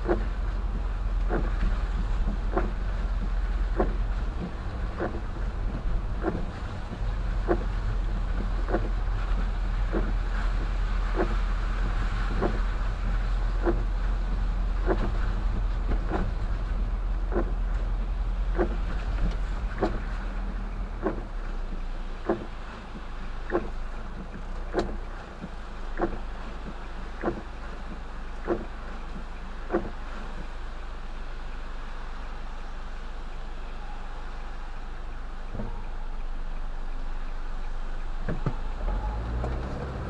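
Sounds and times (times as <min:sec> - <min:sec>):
car engine and road noise: 0:00.0 - 0:40.0
windshield wipers sweeping: 0:00.0 - 0:40.0.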